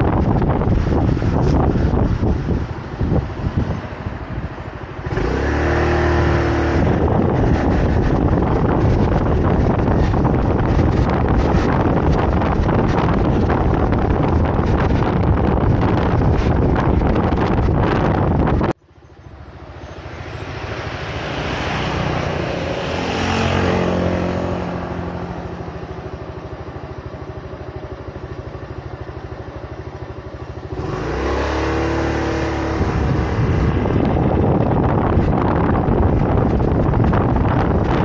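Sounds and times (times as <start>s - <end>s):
wind on microphone: 0.0s - 27.5s, 30.0s - 38.0s
motorcycle engine running: 0.0s - 38.0s.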